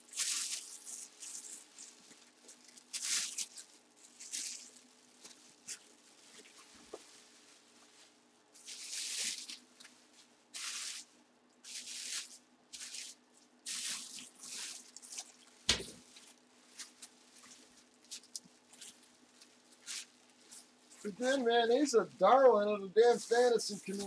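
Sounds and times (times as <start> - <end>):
bubble wrap crinkling: 0.0 - 24.0.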